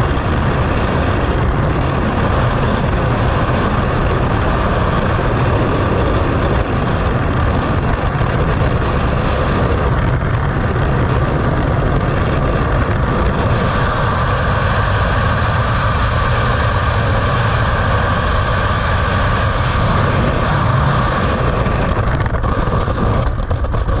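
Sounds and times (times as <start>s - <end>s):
heavy low rumble: 0.0s - 24.0s
wind buffeting microphone: 0.0s - 24.0s.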